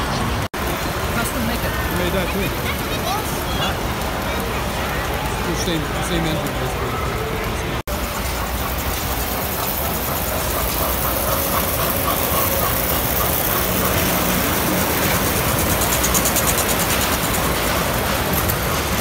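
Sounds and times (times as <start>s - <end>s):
model train wheels and motor rumble: 0.1s - 19.0s
model train clicking: 0.6s - 19.0s.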